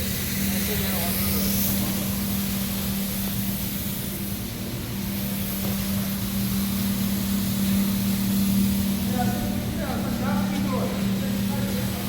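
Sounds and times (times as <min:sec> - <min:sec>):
slitting machine humming: 0:00.0 - 0:12.0.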